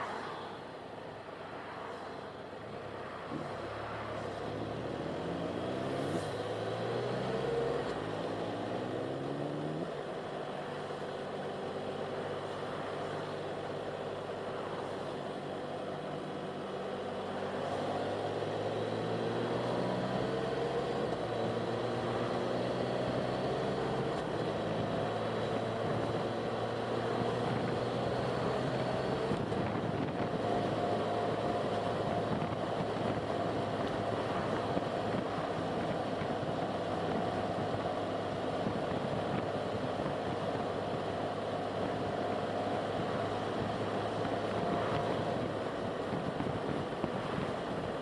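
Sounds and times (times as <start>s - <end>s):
car engine: 0.0s - 48.0s
road noise: 0.0s - 48.0s.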